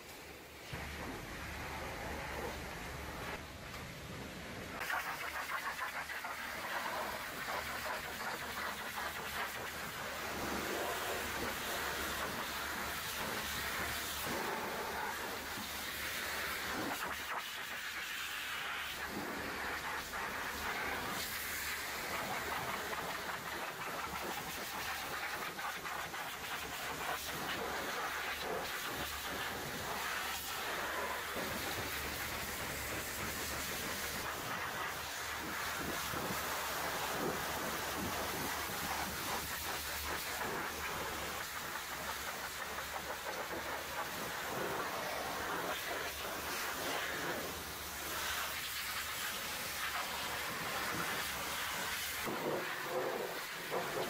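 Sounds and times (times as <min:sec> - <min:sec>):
pressure washer spray on metal: 0:04.8 - 0:54.0.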